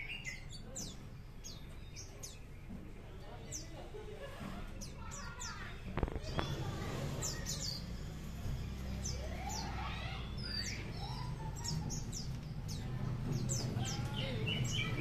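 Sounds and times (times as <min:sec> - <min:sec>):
bird singing chirps and warbles: 0:00.0 - 0:15.0.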